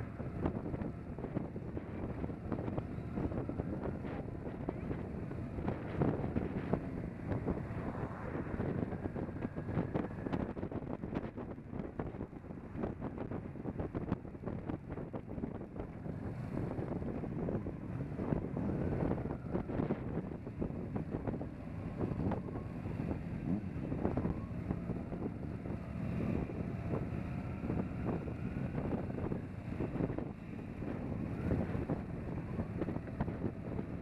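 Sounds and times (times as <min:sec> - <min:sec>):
motorcycle engines rumbling: 0:00.0 - 0:34.0
wind buffeting microphone: 0:00.0 - 0:34.0.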